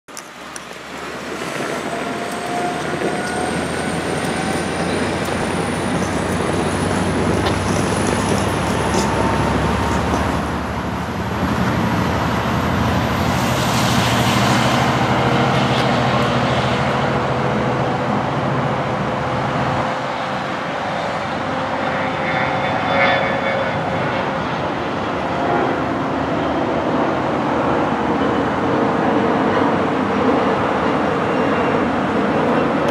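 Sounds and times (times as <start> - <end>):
low engine hum: 0.2 - 27.4
train wheels rumbling: 0.2 - 32.9.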